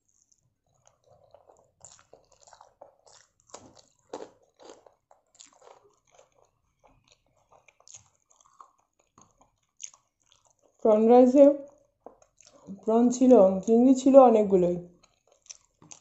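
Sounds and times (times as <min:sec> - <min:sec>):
person chewing: 0:00.0 - 0:10.9, 0:11.5 - 0:13.4, 0:14.8 - 0:16.0.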